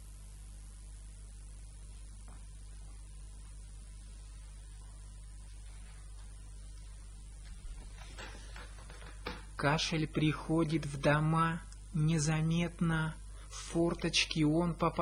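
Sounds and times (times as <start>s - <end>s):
background hiss: 0.0s - 15.0s
electrical mains hum: 0.0s - 15.0s.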